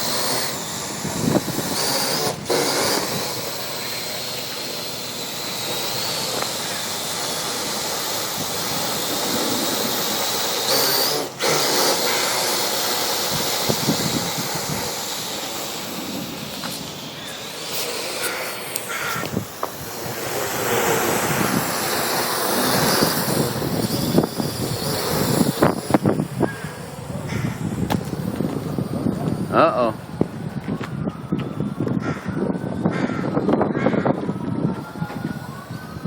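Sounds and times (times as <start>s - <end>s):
drone propellers: 0.0s - 36.0s
wind buffeting microphone: 0.0s - 36.0s.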